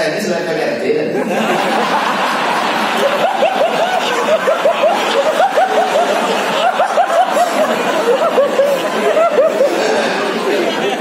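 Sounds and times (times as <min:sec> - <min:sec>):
group of men laughing: 0:01.2 - 0:11.0.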